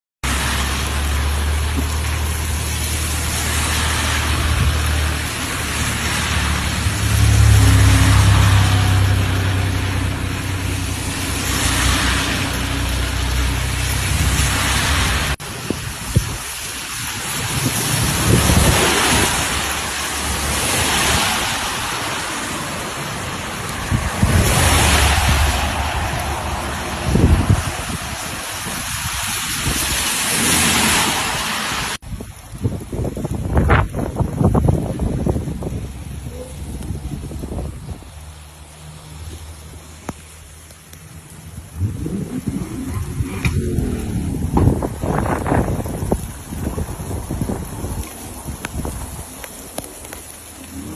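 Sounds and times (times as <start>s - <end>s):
floodwater rushing: 0.2s - 50.9s.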